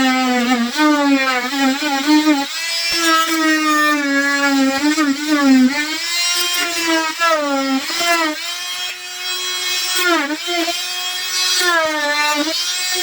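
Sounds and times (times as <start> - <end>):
rotary tool cutting plastic: 0.0 - 13.0.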